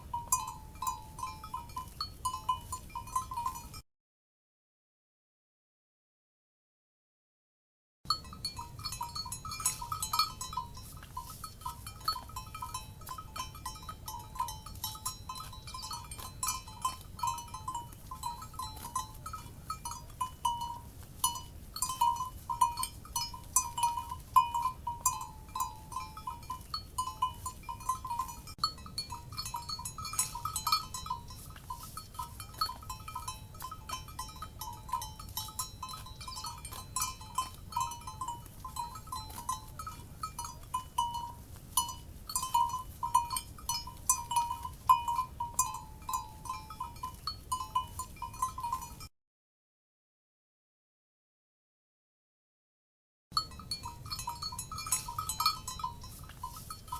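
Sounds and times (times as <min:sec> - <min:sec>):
cowbells clanking: 0:00.0 - 0:03.8, 0:08.1 - 0:49.1, 0:53.4 - 0:56.9.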